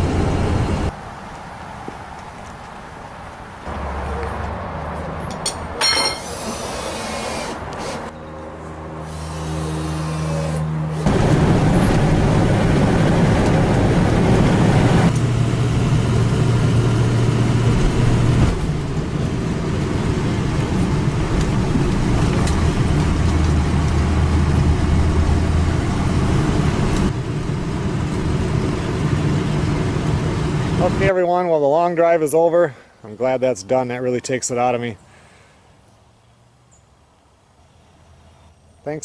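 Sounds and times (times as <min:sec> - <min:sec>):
car engine and road noise: 0:00.0 - 0:31.4, 0:35.0 - 0:39.0.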